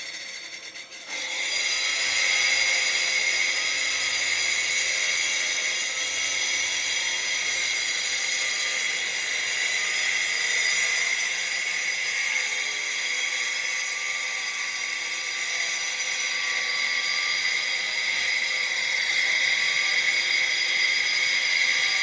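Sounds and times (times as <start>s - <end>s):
wall chaser cutting whine: 0.0s - 22.0s
dust extraction vacuum: 1.1s - 22.0s.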